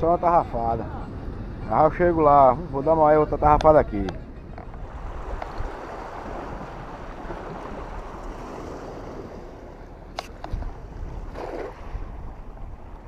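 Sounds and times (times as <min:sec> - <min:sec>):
sea surf washing: 0:00.0 - 0:13.0
wind on microphone: 0:00.0 - 0:13.0.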